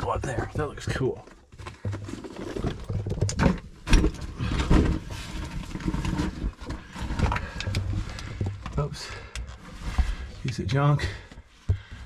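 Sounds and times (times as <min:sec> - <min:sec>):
scrambling over rough rock: 0:00.0 - 0:12.0.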